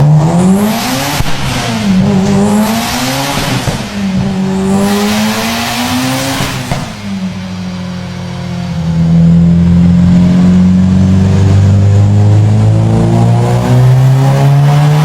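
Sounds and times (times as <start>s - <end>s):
car engine revving through gears: 0.0s - 15.0s.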